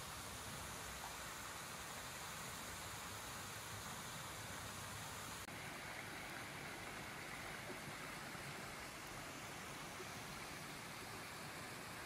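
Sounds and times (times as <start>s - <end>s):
stream running over weirs: 0.0s - 12.0s.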